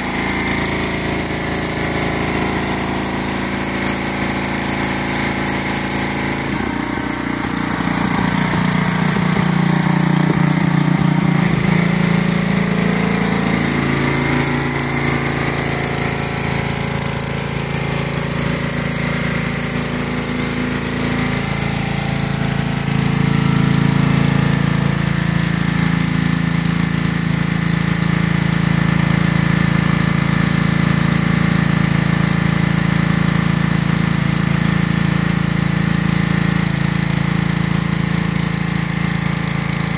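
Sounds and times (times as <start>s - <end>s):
pressure washer engine: 0.0s - 39.9s
water spraying on concrete: 0.0s - 39.9s.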